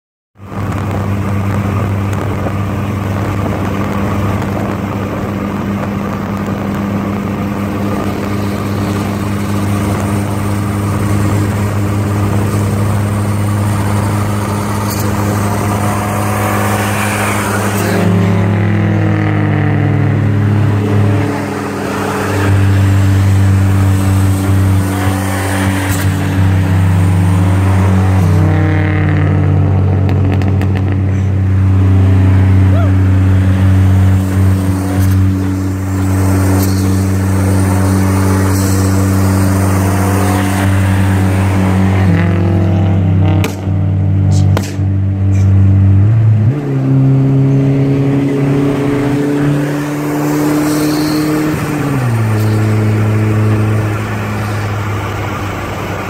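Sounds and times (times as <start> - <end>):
turbocharged car engine revving: 0.4 - 56.0.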